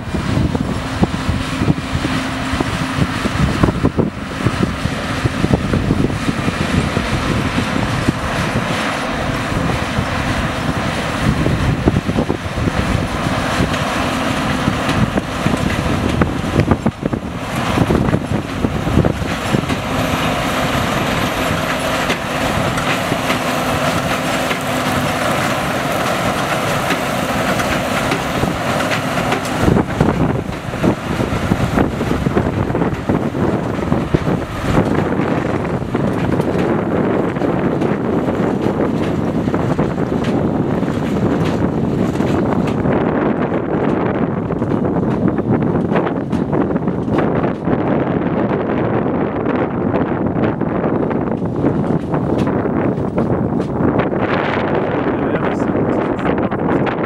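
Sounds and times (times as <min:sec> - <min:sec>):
baler working: 0:00.0 - 0:57.0
tractor diesel engine under load: 0:00.0 - 0:57.0.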